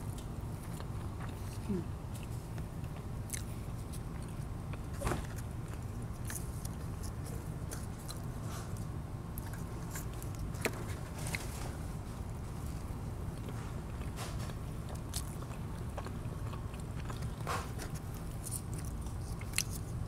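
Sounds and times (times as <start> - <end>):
low background hum: 0.0 - 20.0
person chewing and crunching: 0.0 - 20.0.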